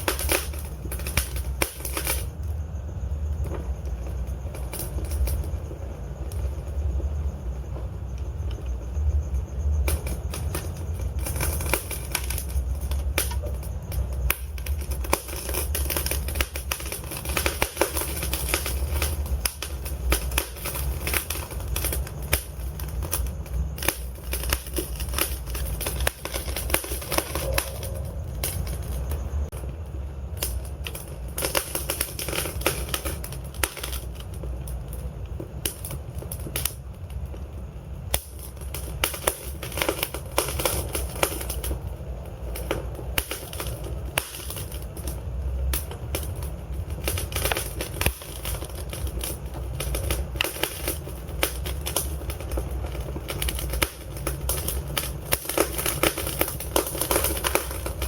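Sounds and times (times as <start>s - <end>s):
low rumble of burning logs: 0.0s - 58.0s
wood fire crackling and popping: 0.0s - 58.0s.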